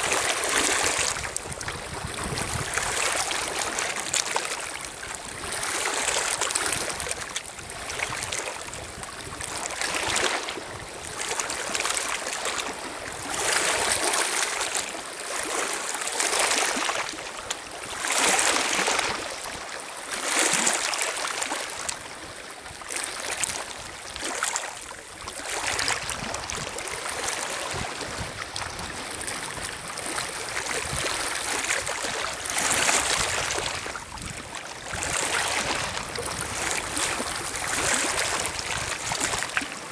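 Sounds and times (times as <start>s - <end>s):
waves lapping on pebble shore: 0.0s - 22.2s, 22.8s - 39.9s.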